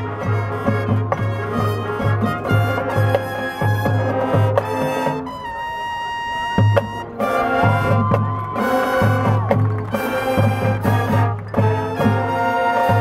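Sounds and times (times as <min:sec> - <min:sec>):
marching band playing: 0:00.0 - 0:13.0.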